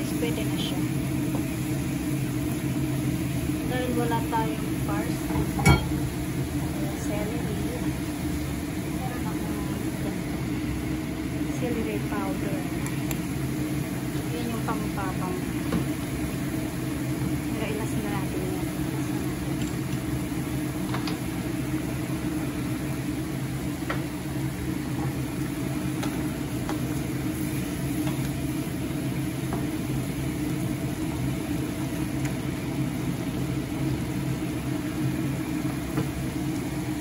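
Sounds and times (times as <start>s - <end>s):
food sizzling in a pan: 0.0s - 37.0s
low mechanical hum: 0.0s - 37.0s.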